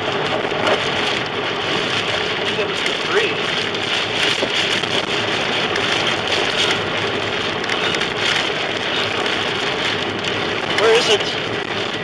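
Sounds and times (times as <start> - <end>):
heavy rain on car windshield: 0.0 - 12.0
road and engine noise: 0.0 - 12.0.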